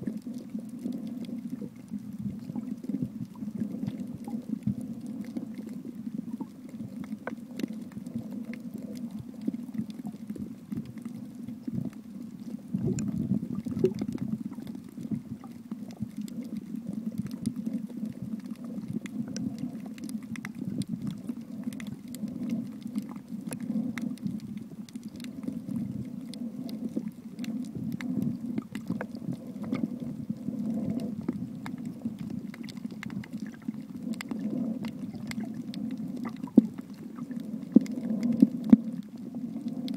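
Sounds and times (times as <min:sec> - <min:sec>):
faint clicks and crackles: 0:00.0 - 0:39.9
underwater rumble of moving water: 0:00.0 - 0:39.9.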